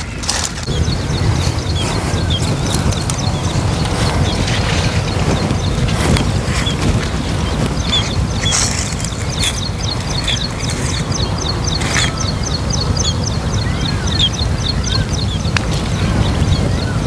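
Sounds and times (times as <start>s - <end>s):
birds chirping rapidly: 0.0s - 17.0s
low sweeping bird notes: 0.0s - 17.0s
steady low rumble: 0.0s - 17.0s.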